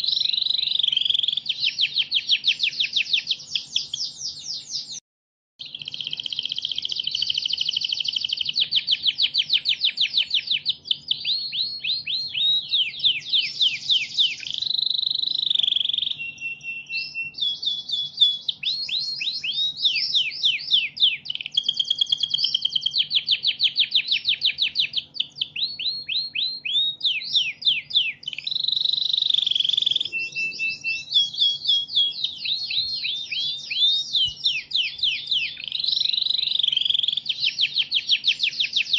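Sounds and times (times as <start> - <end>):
songbird chattering song: 0.0 - 5.0, 5.6 - 38.9.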